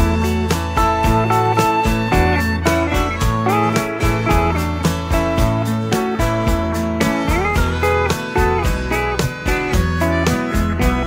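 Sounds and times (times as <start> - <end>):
guitar: 0.0 - 11.0
steady drum beat: 0.0 - 11.0.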